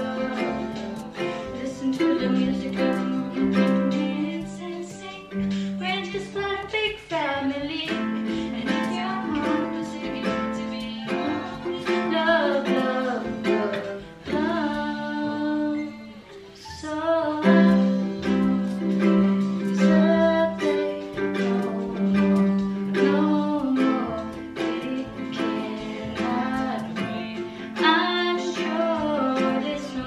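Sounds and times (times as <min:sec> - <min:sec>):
ukulele strumming: 0:00.0 - 0:30.0
woman singing: 0:00.0 - 0:30.0.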